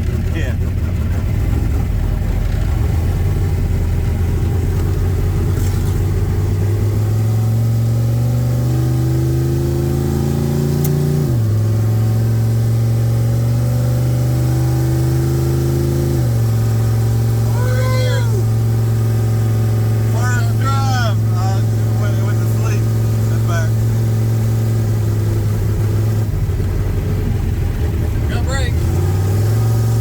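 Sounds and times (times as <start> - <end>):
car engine pulling under load: 0.0 - 30.0.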